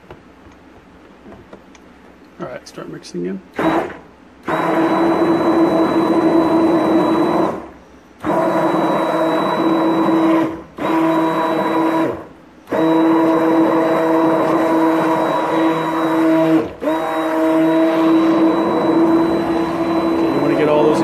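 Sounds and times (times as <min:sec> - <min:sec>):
stick blender whine: 0:03.5 - 0:21.0.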